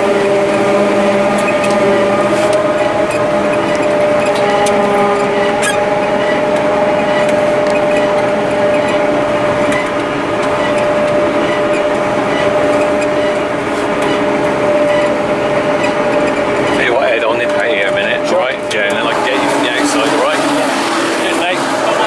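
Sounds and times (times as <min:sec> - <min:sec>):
harvester mechanical drone: 0:00.0 - 0:22.0.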